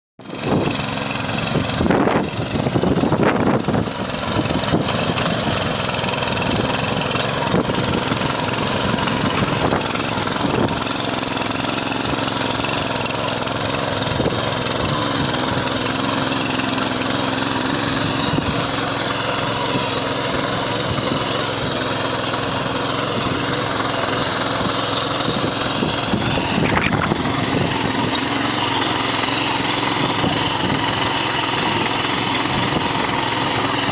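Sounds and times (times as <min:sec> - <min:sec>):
rotary tiller engine running: 0:00.2 - 0:33.9.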